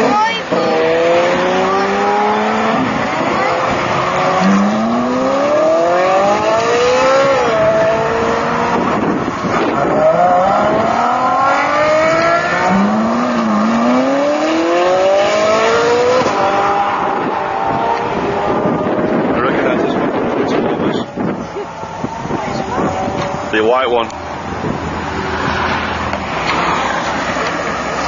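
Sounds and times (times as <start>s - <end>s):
car engines accelerating hard: 0.0s - 28.0s.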